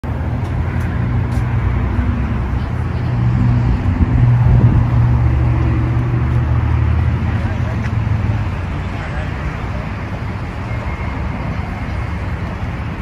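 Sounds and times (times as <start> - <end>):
car engines idling: 0.0 - 13.0
road traffic noise: 0.0 - 13.0.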